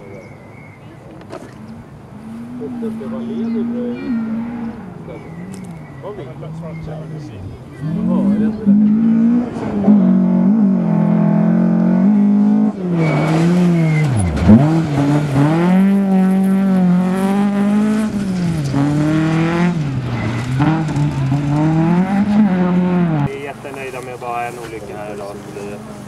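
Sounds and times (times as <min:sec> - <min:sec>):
rally car engine at high revs: 0:01.4 - 0:23.3.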